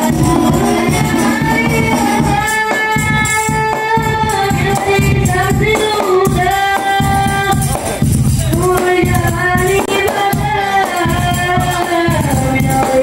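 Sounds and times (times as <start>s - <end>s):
frame drums beating quick rhythm: 0.0s - 13.0s
men singing into microphones: 0.0s - 13.0s.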